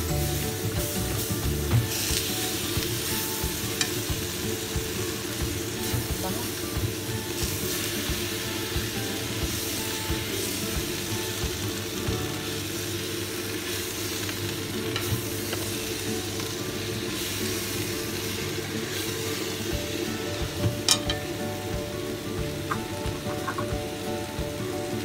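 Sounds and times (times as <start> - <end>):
vegetables sizzling in a wok: 0.0 - 25.0.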